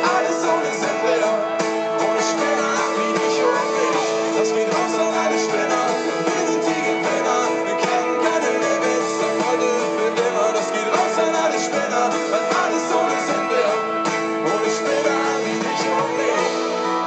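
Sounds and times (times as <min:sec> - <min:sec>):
acoustic guitar strumming: 0:00.0 - 0:17.0
live rock band playing: 0:00.0 - 0:17.0.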